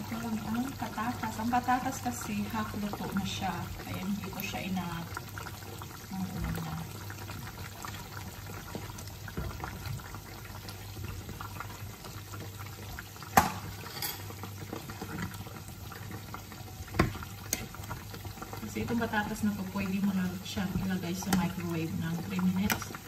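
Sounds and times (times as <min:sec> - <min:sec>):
stew simmering and bubbling: 0:00.0 - 0:23.0.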